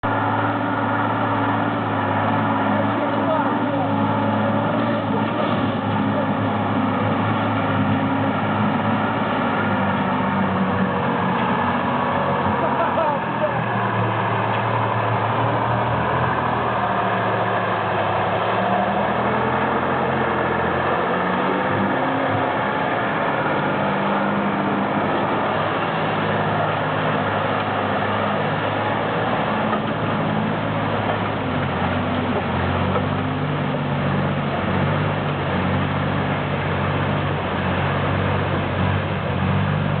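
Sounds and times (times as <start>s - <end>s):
truck engine labouring: 0.0s - 40.0s.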